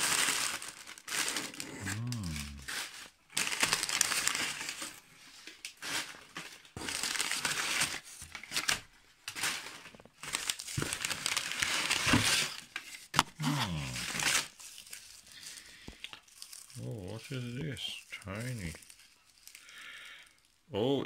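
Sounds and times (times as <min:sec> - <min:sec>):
newspaper rustling and crinkling: 0:00.0 - 0:20.6.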